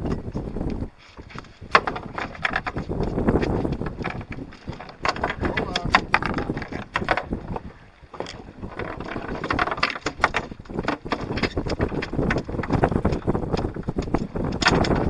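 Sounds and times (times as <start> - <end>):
water noise: 0.0 - 15.0
wind gusting on microphone: 0.0 - 15.0
knocks and clatters of handling: 1.0 - 15.0.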